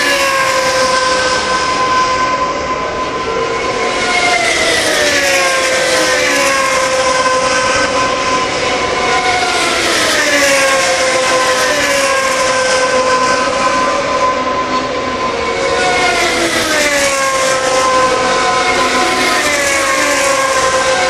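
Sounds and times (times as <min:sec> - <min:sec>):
race car engines howling: 0:00.0 - 0:21.0.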